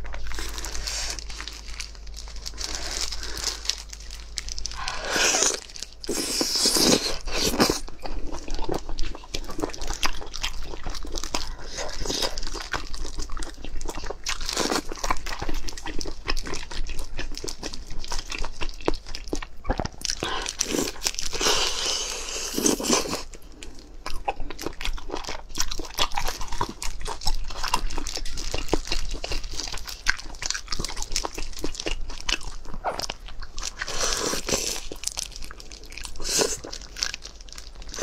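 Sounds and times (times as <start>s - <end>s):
wet chewing and smacking: 0.0s - 38.0s.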